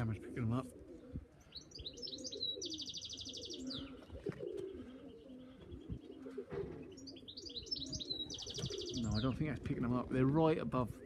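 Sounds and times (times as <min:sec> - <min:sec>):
pigeons cooing: 0:00.0 - 0:11.0
songbird chirping and trilling: 0:00.0 - 0:11.0.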